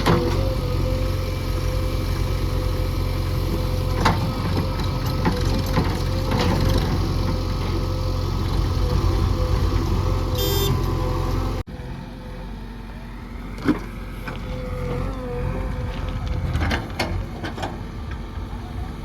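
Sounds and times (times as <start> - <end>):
diesel machine engine running: 0.0 - 19.0.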